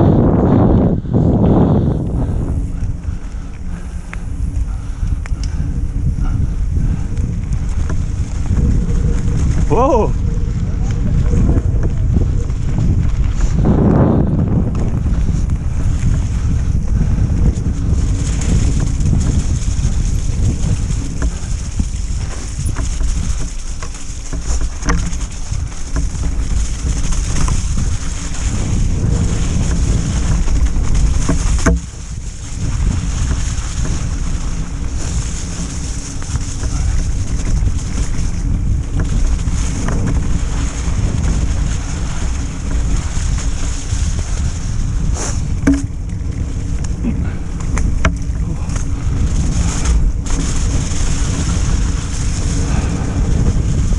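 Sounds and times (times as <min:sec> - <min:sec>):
wind buffeting microphone: 0:00.0 - 0:53.9
bike knocks and rattles: 0:02.0 - 0:53.9
tyre rumble on dirt: 0:07.2 - 0:53.9.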